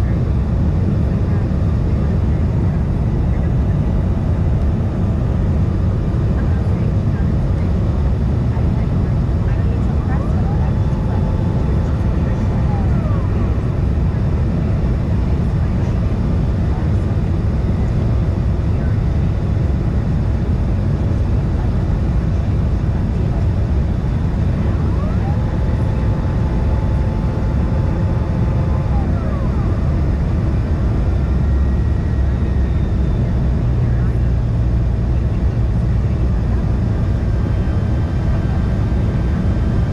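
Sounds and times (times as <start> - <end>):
faint whine: 0.0 - 39.9
jet cabin engine rumble: 0.0 - 39.9.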